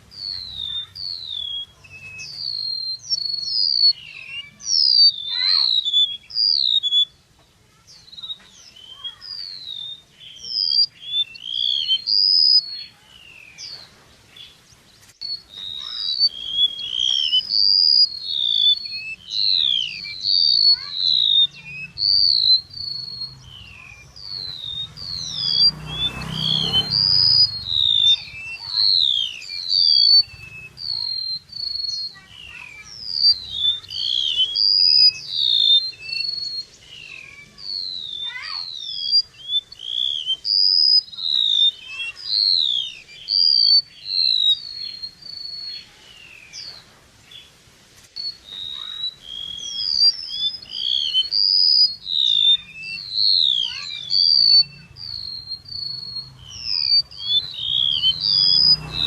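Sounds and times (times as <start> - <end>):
bird chirps and whistles: 0.0 - 14.6, 15.2 - 47.5, 48.2 - 59.0.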